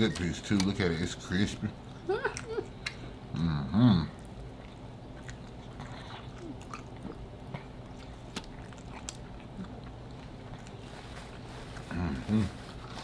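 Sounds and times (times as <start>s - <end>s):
person chewing crunchy food: 1.8s - 13.0s.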